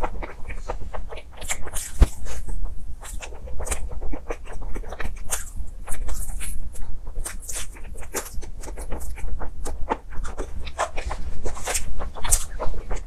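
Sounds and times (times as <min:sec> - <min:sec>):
wet chewing clicks and smacks: 0:00.0 - 0:02.1, 0:03.0 - 0:13.0.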